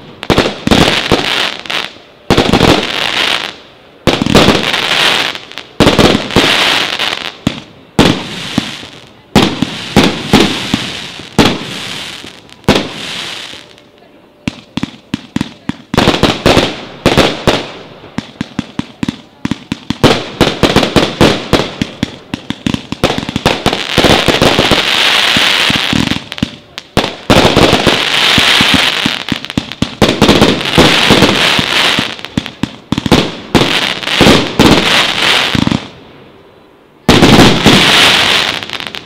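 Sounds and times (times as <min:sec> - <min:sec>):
fireworks shots bursting: 0:00.0 - 0:13.8, 0:14.4 - 0:36.0, 0:37.1 - 0:39.0
fireworks crackling: 0:00.0 - 0:36.1, 0:37.0 - 0:39.0.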